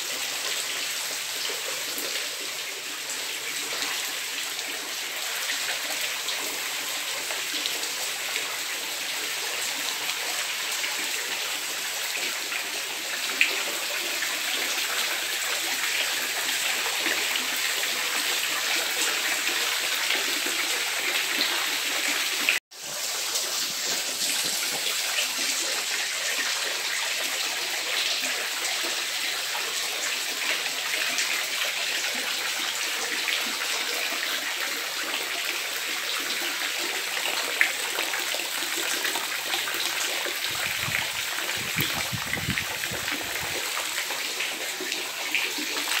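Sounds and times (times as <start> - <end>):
rain splashing on pool water: 0.0 - 46.0.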